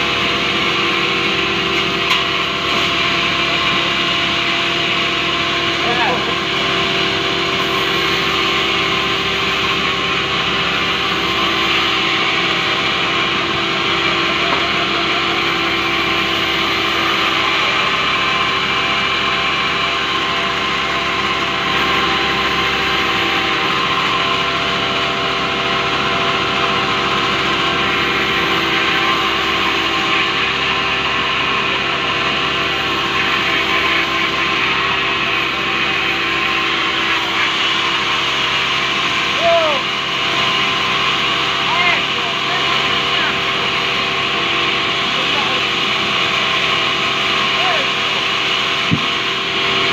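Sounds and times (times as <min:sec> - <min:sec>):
band saw cutting log: 0:00.0 - 0:49.9.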